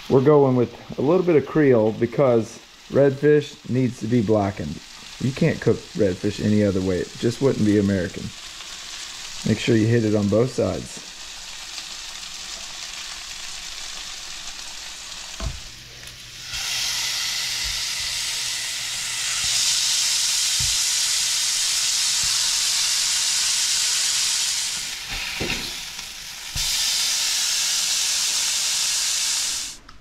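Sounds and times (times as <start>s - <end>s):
fish frying in hot oil: 2.8s - 29.8s.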